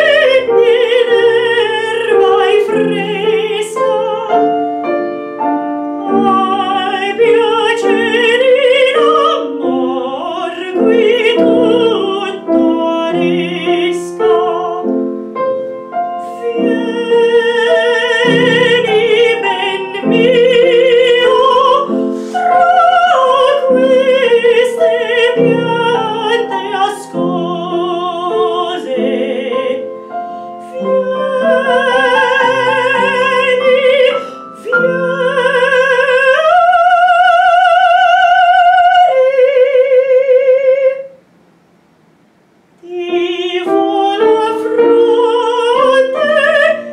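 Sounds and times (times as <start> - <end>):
woman singing operatically: 0.0 - 4.9, 6.0 - 15.0, 16.0 - 41.2, 42.8 - 46.9
piano accompaniment: 0.0 - 41.3, 42.8 - 46.9.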